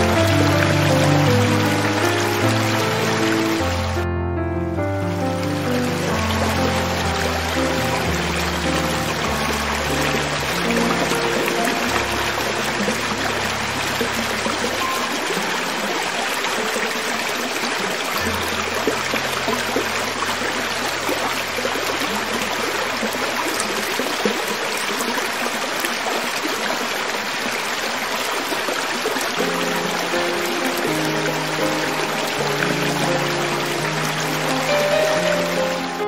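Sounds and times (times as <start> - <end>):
creek water flowing over rocks: 0.0 - 36.0.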